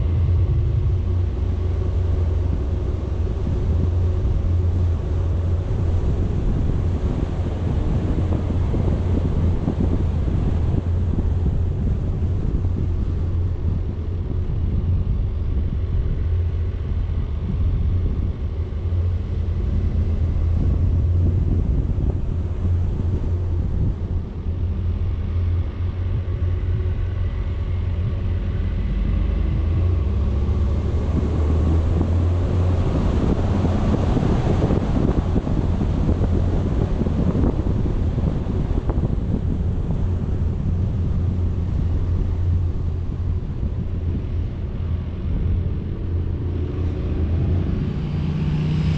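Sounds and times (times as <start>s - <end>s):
faint engine hum: 0.0s - 48.9s
vehicle driving rumble: 0.0s - 48.9s
wind buffeting microphone: 0.0s - 48.9s.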